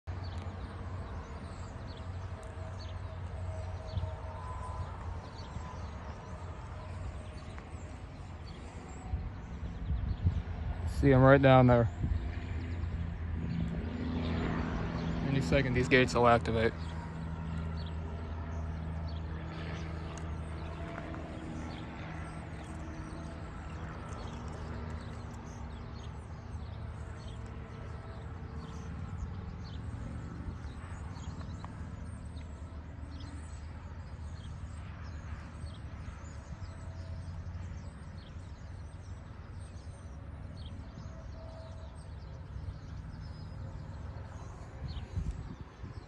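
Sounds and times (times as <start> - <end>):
low mechanical drone: 0.0 - 46.0.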